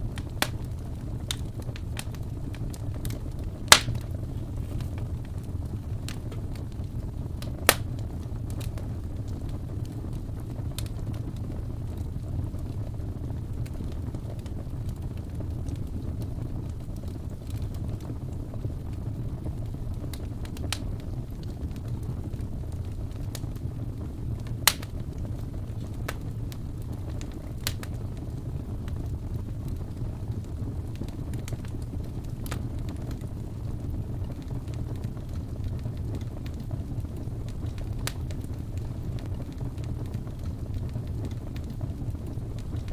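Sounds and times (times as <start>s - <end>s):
fire crackling and popping: 0.0s - 42.9s
wood fire rumbling: 0.0s - 42.9s.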